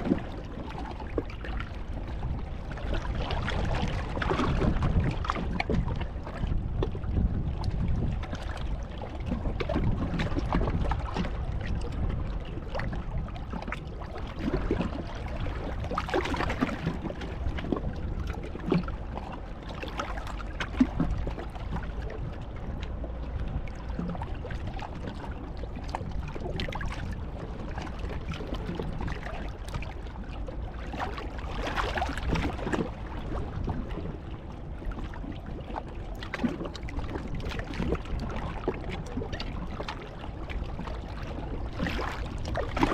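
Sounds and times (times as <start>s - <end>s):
wind rumbling on microphone: 0.0s - 42.9s.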